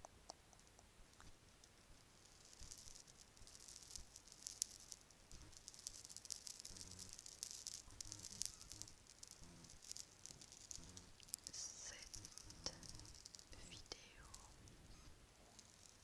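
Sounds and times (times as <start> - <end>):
bracelets clicking and rattling: 0.0 - 14.6.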